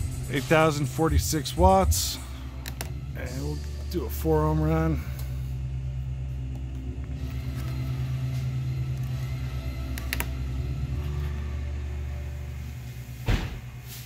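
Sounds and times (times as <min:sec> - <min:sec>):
low hum of amplifier test bench: 0:01.1 - 0:13.8.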